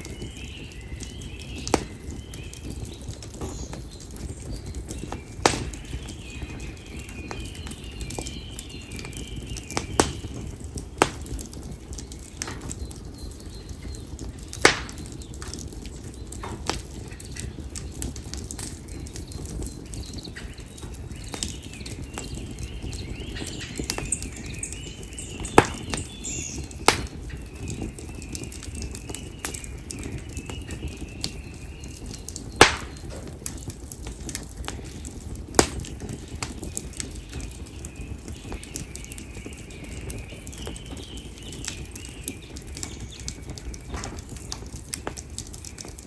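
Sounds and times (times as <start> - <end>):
birds chirping: 0.0 - 46.0
campfire flames rustling: 0.0 - 46.0
fire crackling and popping: 0.0 - 46.0.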